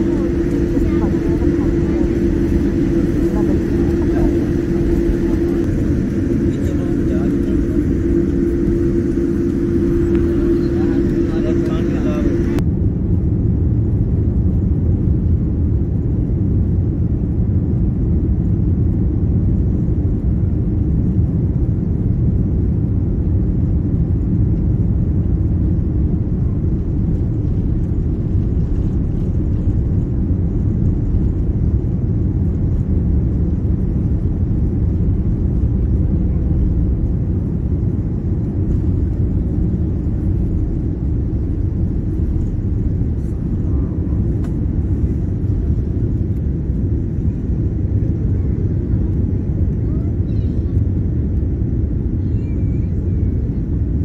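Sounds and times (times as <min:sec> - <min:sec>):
jet engine noise: 0:00.0 - 0:54.0
plane rolling on runway: 0:00.0 - 0:54.0.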